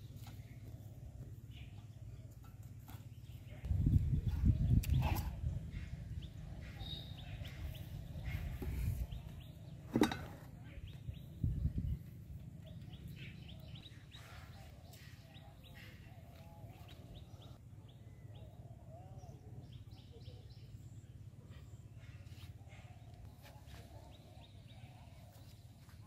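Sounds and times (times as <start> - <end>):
birds chirping: 0.0 - 26.0
low warbling bird calls: 3.2 - 26.0.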